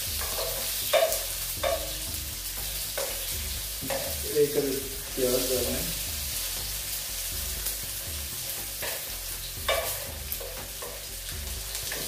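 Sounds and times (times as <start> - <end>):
onions sizzling in a skillet: 0.0 - 12.0.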